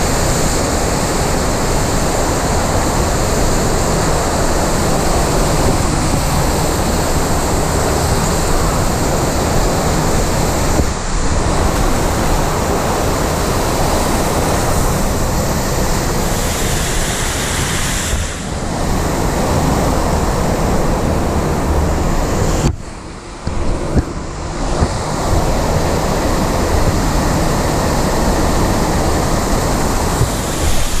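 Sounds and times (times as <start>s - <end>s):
rush of pumped water: 0.0s - 31.0s.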